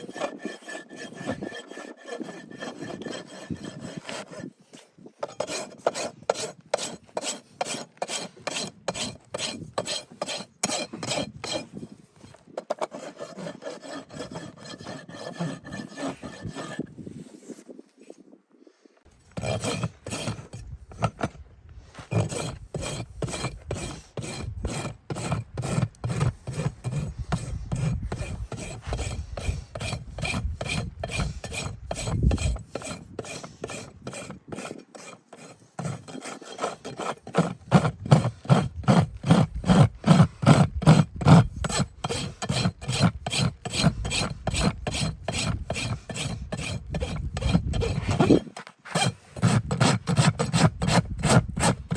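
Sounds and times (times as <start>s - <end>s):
rasp filing a hoof: 0.0s - 18.3s, 19.1s - 51.9s.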